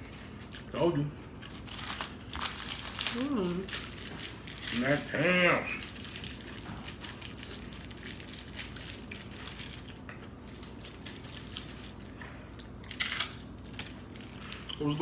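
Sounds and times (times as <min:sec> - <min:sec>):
chewing sandwich: 0:00.1 - 0:00.7, 0:01.3 - 0:15.0.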